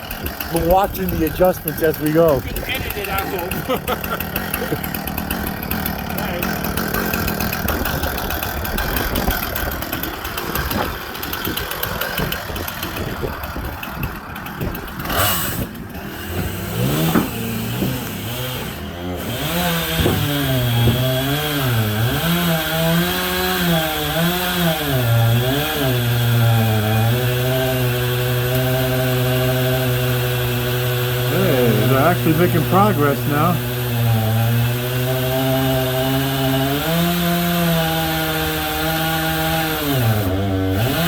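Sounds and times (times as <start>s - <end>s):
chainsaw cutting log: 0.0s - 41.0s.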